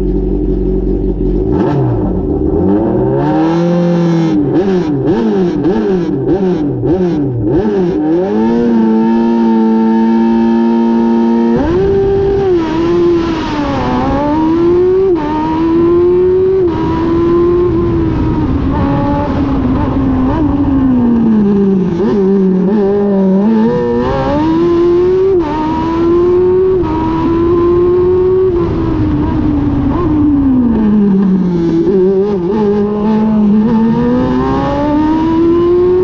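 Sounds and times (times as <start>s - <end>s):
race car engine revving: 0.0s - 36.0s
race car accelerating through gears: 1.4s - 36.0s.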